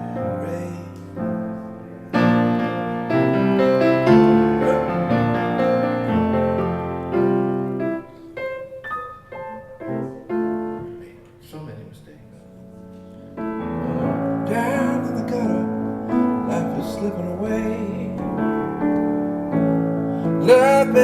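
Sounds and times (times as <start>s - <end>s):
piano chords and notes: 0.0s - 21.0s.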